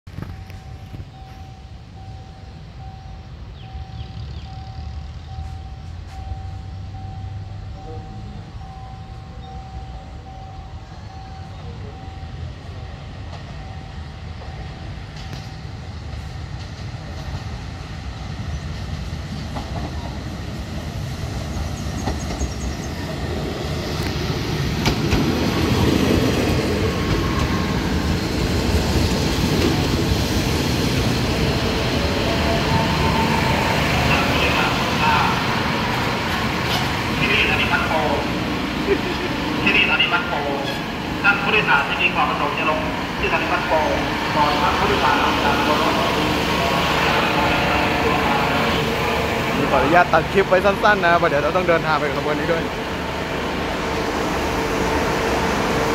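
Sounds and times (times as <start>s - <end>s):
diesel train rumble: 0.1s - 55.9s.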